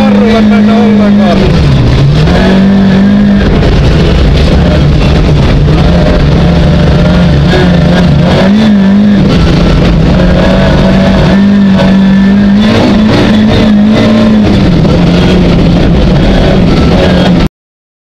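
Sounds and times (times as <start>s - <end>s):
rally car engine revving: 0.0s - 17.5s.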